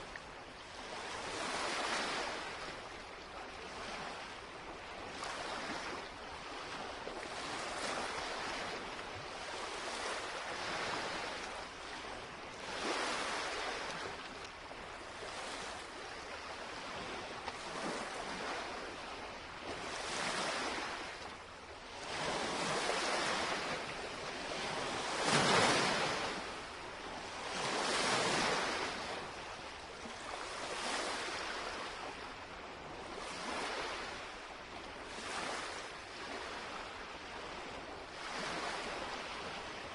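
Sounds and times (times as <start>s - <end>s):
waves lapping on shore: 0.0s - 39.9s.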